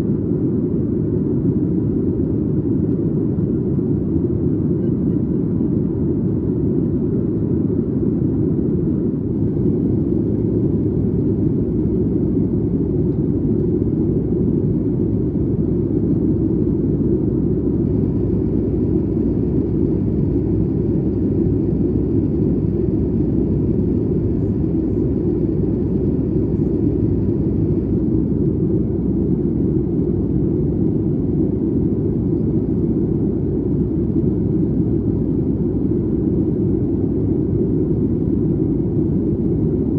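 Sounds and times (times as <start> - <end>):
airplane cabin rumble in flight: 0.0 - 39.9
jet engine noise: 0.0 - 39.9.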